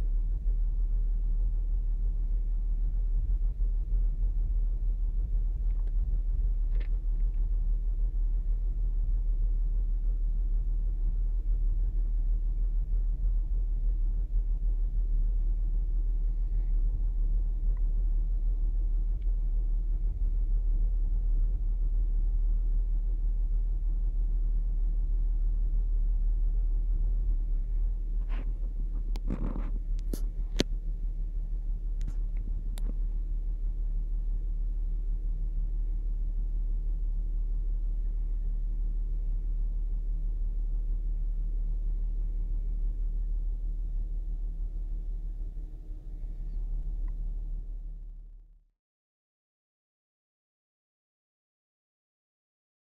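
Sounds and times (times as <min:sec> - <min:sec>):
car engine idling: 0:00.0 - 0:48.3.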